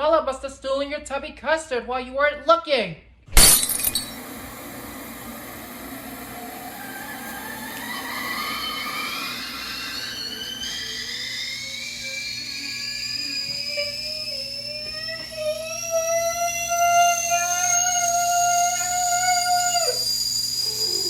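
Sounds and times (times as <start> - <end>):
mechanical whine rising in pitch: 3.4 - 21.0.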